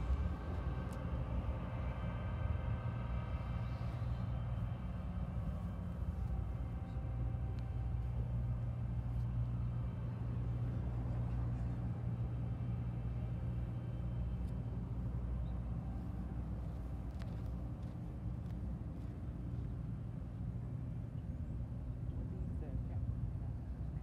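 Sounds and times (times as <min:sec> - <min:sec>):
locomotive diesel engine drone: 0:00.0 - 0:24.0.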